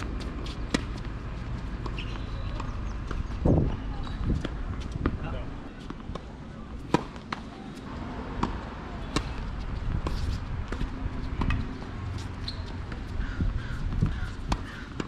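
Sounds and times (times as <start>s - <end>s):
tennis ball hit and bouncing: 0.0s - 5.2s, 5.8s - 13.2s, 13.8s - 15.0s.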